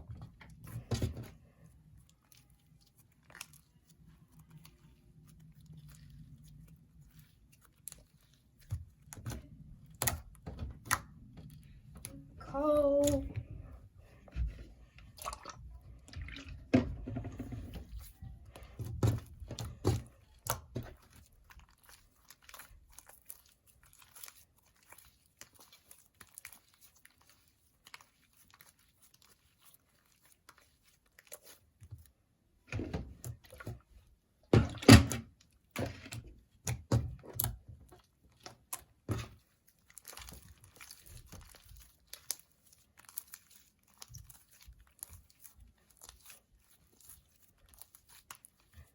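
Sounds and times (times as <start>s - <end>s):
slime squished by hand: 0.2s - 16.8s, 17.7s - 34.5s, 35.2s - 48.9s.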